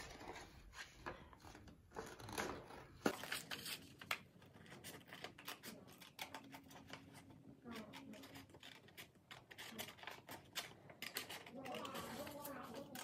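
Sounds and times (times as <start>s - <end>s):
paper rustling: 0.0s - 13.0s
scissors snipping paper: 2.0s - 13.0s.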